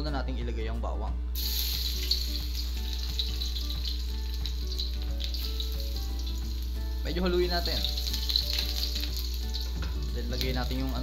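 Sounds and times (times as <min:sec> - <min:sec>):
soft background music: 0:00.0 - 0:11.0
garlic sizzling in oil: 0:01.4 - 0:11.0.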